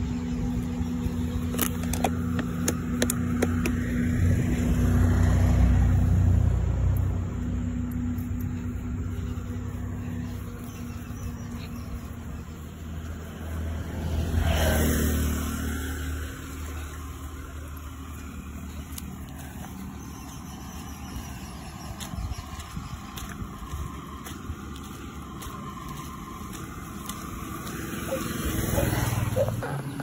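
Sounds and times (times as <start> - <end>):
low engine hum: 0.0 - 30.0
vehicle passing: 0.0 - 30.0.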